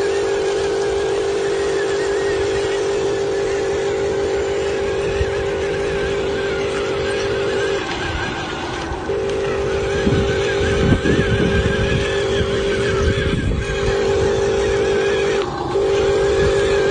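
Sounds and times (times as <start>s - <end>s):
noisy hum: 0.0s - 16.9s
small electric motor whining: 0.0s - 16.9s.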